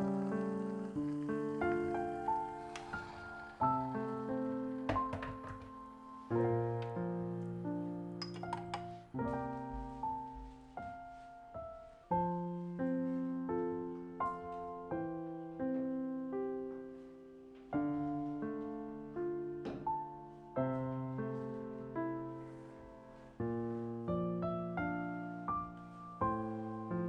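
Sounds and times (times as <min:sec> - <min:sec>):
slow gentle solo piano: 0:00.0 - 0:27.0.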